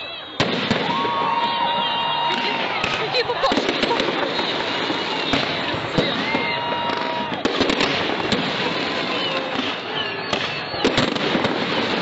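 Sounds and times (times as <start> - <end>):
fireworks crackling: 0.0 - 12.0
whistling fireworks: 0.0 - 12.0.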